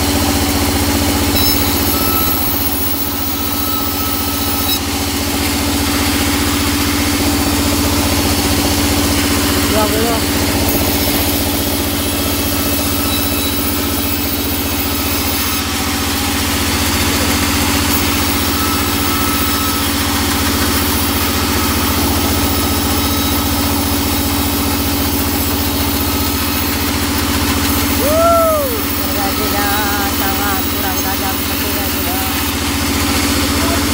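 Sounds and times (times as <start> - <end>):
band saw humming: 0.0 - 33.9.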